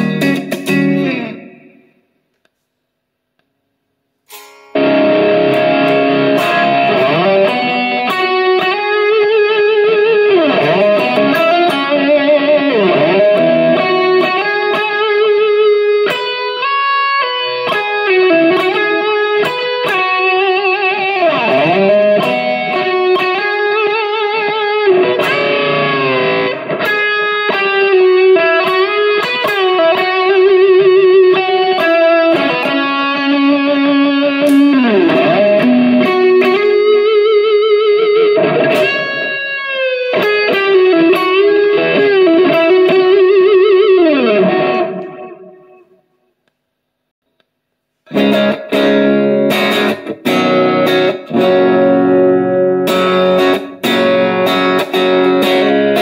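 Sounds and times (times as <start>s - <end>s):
electric guitar lead melody: 0.0s - 2.1s, 4.3s - 46.1s, 48.1s - 56.0s.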